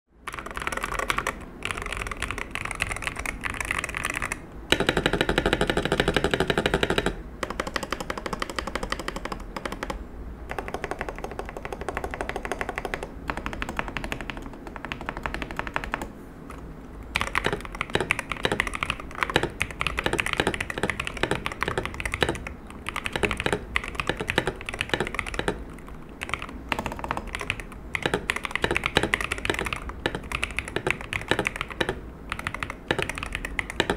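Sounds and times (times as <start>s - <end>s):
keyboard keys clacking: 0.3s - 33.9s.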